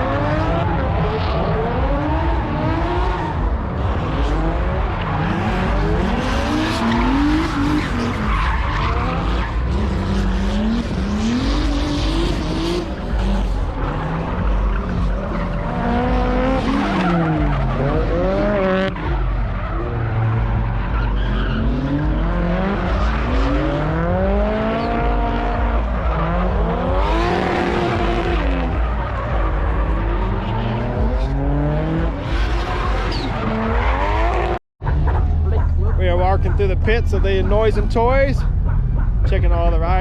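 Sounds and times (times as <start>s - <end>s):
car engines revving: 0.0s - 40.0s
tyres skidding: 0.0s - 40.0s.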